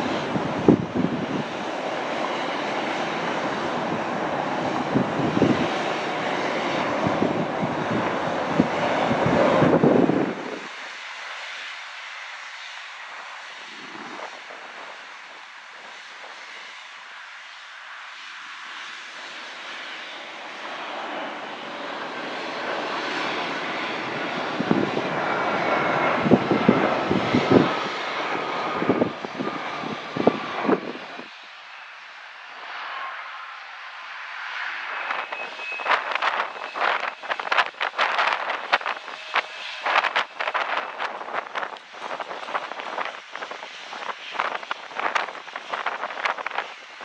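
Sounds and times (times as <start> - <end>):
wind gusts on microphone: 0.0 - 11.1, 13.1 - 16.8, 19.2 - 31.4, 34.4 - 47.0
faint engine whine: 0.0 - 47.0
jet engines rushing: 0.0 - 47.0.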